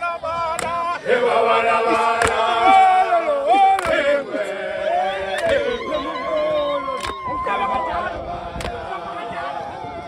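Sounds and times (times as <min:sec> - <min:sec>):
crowd singing and chanting: 0:00.0 - 0:10.0.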